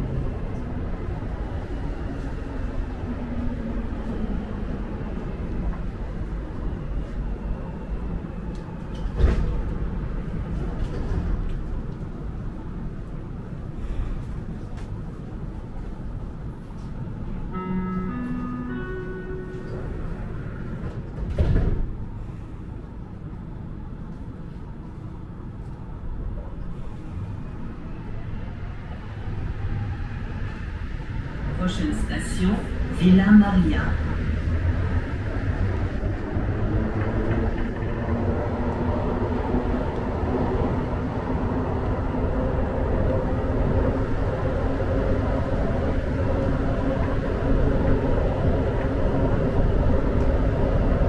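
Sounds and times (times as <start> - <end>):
metro train rumble: 0.0 - 51.0.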